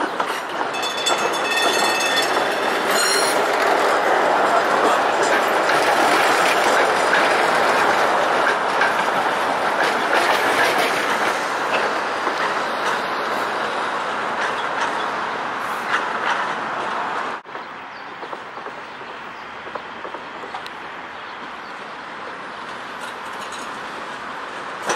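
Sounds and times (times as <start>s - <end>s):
tram wheels rolling on rails: 0.0s - 24.9s.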